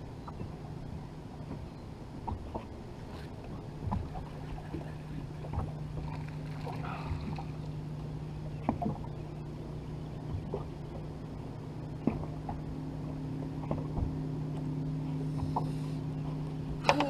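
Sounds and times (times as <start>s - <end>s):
electric trolling motor humming: 0.0s - 17.0s.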